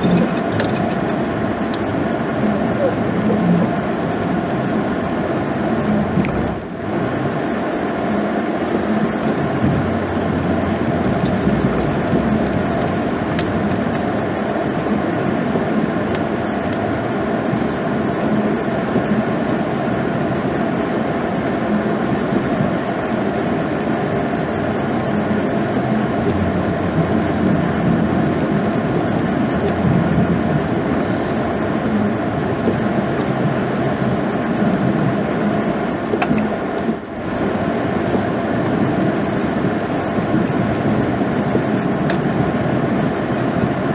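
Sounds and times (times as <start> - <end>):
pickup truck engine rumbling: 0.0 - 43.9.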